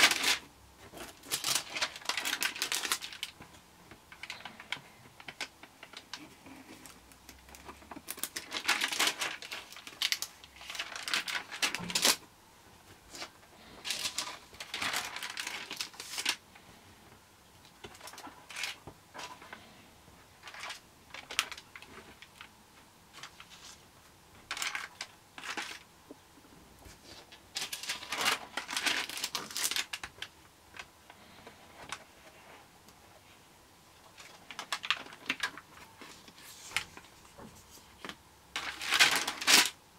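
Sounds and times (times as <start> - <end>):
album pages rustling: 0.0 - 19.7, 20.4 - 22.5, 23.1 - 23.8, 24.5 - 26.2, 26.8 - 33.4, 34.0 - 39.8.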